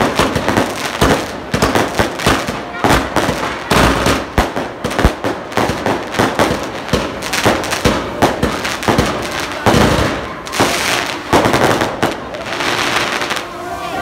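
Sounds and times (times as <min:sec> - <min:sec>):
firecrackers banging: 0:00.0 - 0:13.7.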